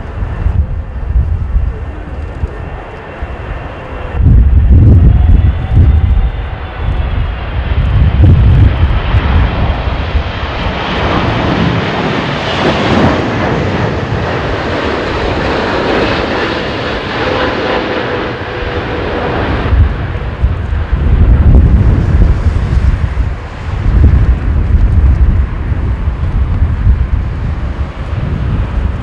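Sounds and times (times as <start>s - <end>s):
jet airliner engines: 0.0s - 29.0s
wind buffeting microphone: 0.0s - 29.0s.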